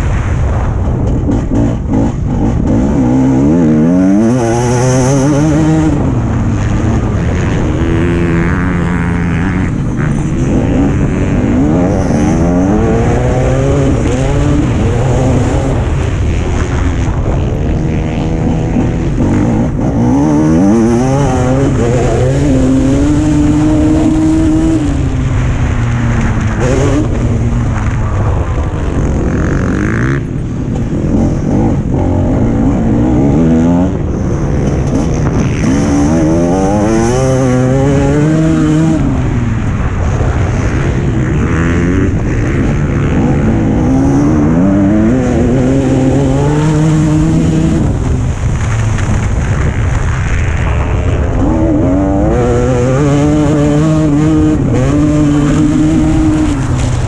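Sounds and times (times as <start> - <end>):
steady noisy rush: 0.0 - 57.0
motocross bike engine revving: 1.2 - 57.0.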